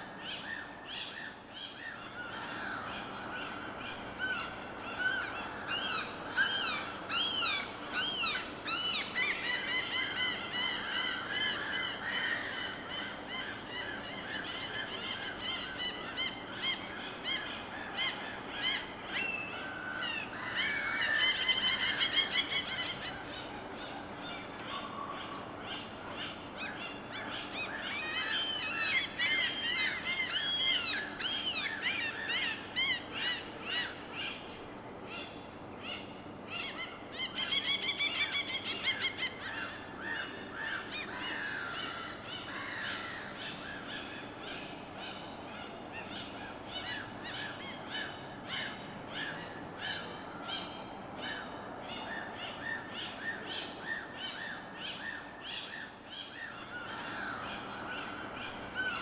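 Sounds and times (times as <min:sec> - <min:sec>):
birds calling and singing: 0:00.2 - 0:59.0.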